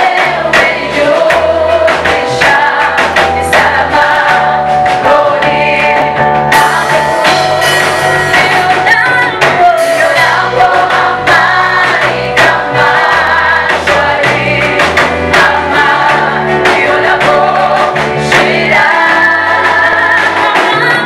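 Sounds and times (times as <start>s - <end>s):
band playing bass and drums: 0.0s - 21.0s
choir singing gospel song: 0.0s - 21.0s.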